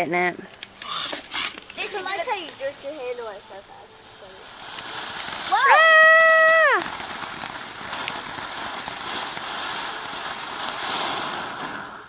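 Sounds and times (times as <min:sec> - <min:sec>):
firework hissing crackle: 0:00.0 - 0:12.0
faint firework pops: 0:00.5 - 0:03.6, 0:04.2 - 0:12.0.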